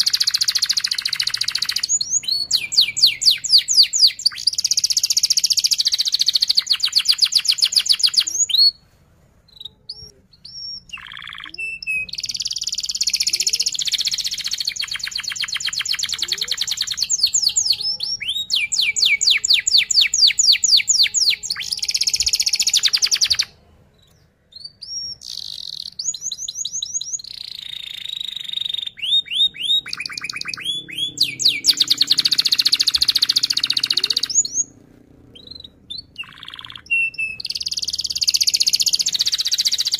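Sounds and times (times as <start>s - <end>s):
canary singing trills: 0.0s - 8.8s, 9.4s - 39.9s
canary chirps: 0.0s - 39.9s.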